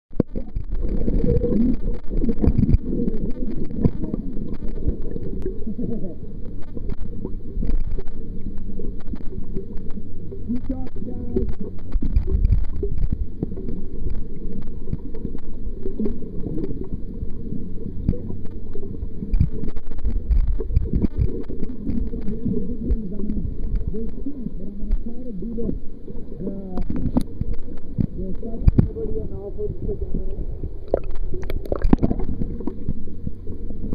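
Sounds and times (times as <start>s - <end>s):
faint clicks: 0.1s - 29.1s, 30.2s - 33.9s
muffled underwater rumble: 0.1s - 33.9s
water bubbles gurgling: 0.1s - 33.9s.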